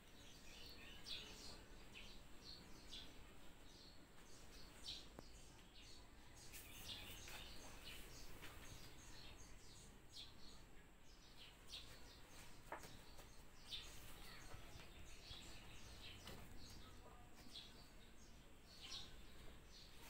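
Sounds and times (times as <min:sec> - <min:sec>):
low background noise: 0:00.0 - 0:20.0
small birds chirping: 0:00.0 - 0:20.0.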